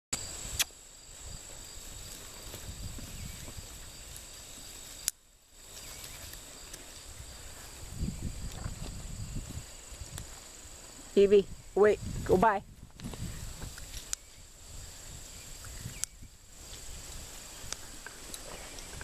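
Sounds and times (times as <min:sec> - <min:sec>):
insects chirring: 0:00.2 - 0:19.0.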